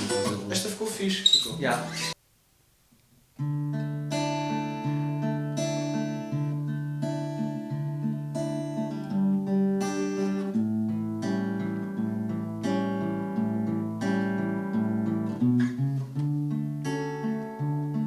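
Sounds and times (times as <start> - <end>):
acoustic guitar strumming and plucking: 0.0 - 2.2, 3.4 - 18.0.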